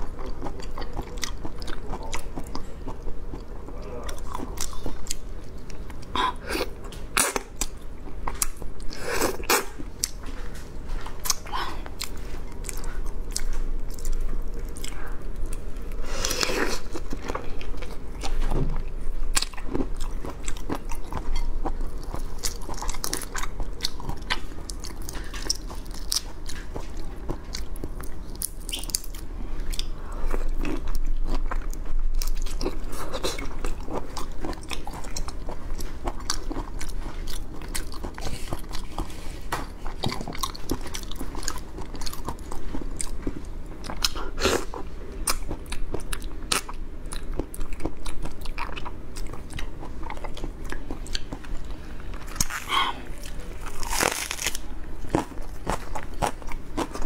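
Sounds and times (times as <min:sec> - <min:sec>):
chewing: 0:00.0 - 0:57.0.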